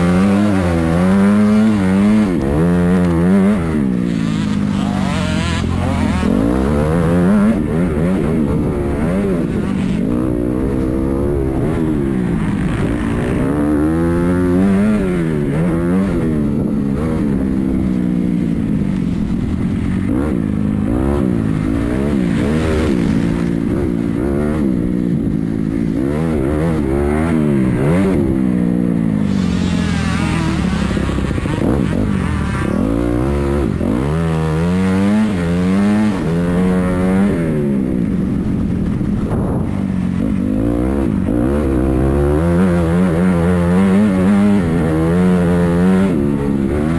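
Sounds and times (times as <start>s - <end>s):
dirt bike engines revving: 0.0s - 28.4s, 29.2s - 39.3s.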